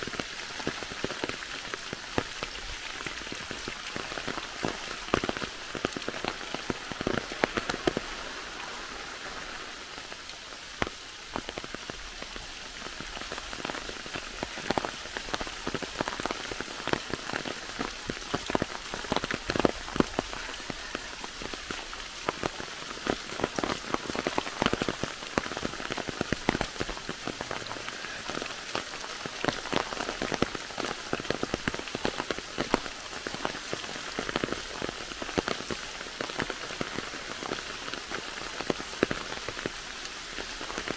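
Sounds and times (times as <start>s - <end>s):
rain hiss: 0.0s - 40.9s
raindrops ticking: 0.0s - 40.9s.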